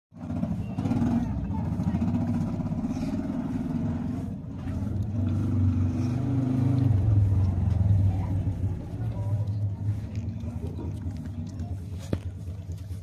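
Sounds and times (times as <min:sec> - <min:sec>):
engine humming: 0:00.1 - 0:13.0.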